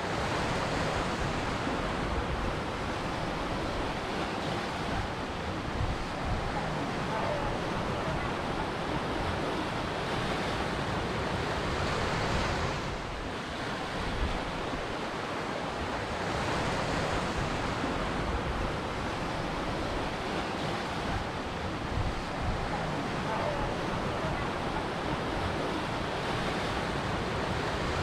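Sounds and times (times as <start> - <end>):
waves breaking: 0.0 - 28.0.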